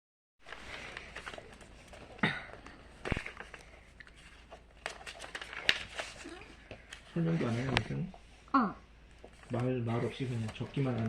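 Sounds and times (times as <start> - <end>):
paper rustling and crinkling: 0.4 - 8.0, 9.1 - 11.0.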